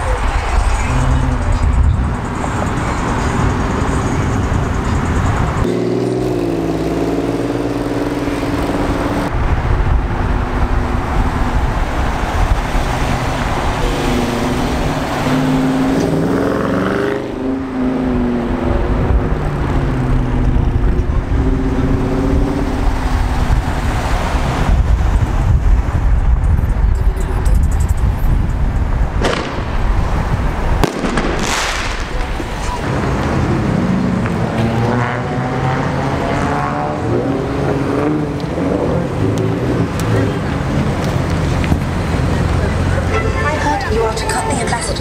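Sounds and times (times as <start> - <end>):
muscle car engines revving past: 0.6 - 25.9, 29.1 - 45.0.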